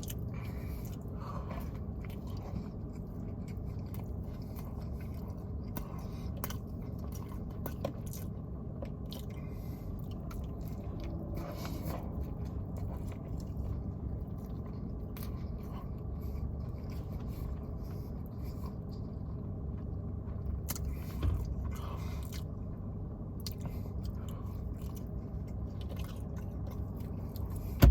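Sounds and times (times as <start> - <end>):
person chewing food: 0.0 - 27.9.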